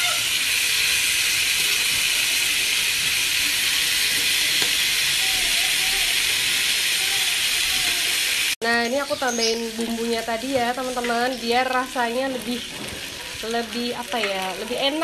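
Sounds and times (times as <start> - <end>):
ribs sizzling on grill pan: 0.0 - 15.0.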